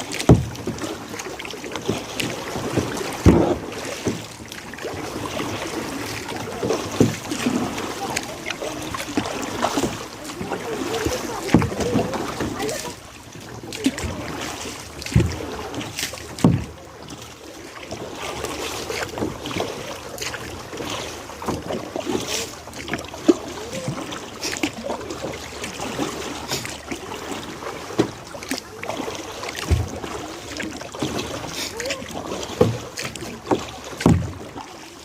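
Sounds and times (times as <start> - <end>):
paddle splashing water: 0.0 - 35.0.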